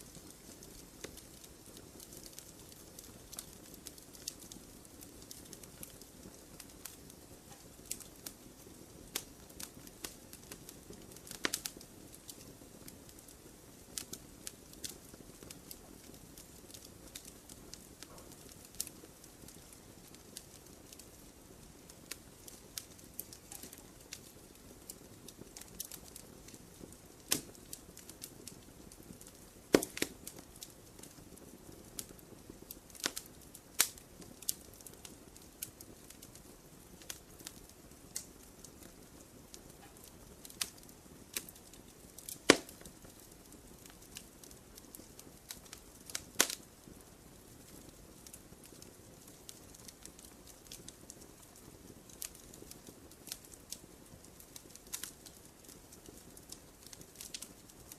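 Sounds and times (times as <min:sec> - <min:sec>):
campfire crackling: 0:00.0 - 0:57.9
hiss of burning: 0:00.0 - 0:57.9.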